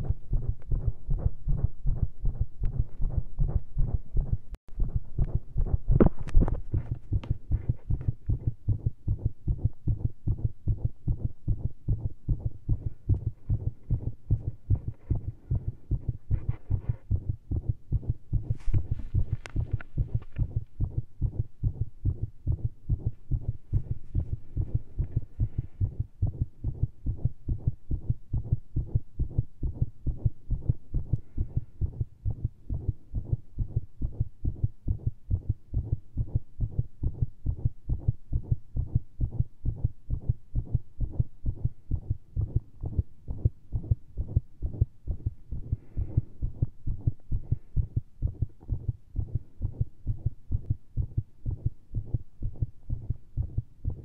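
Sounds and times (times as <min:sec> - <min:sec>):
fast heartbeat through stethoscope: 0:00.0 - 0:54.0.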